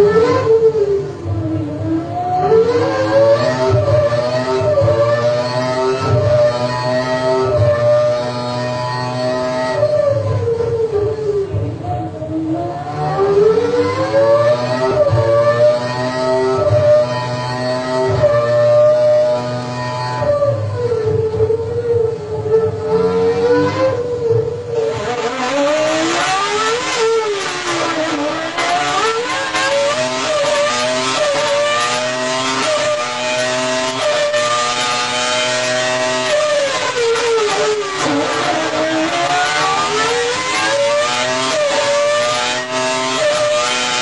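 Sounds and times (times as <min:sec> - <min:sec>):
racing car engine at high revs: 0:00.0 - 0:44.0.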